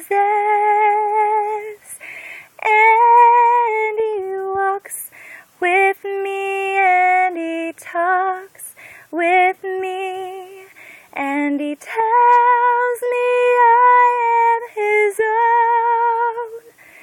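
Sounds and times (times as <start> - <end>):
woman singing a hymn solo: 0.0 - 17.0.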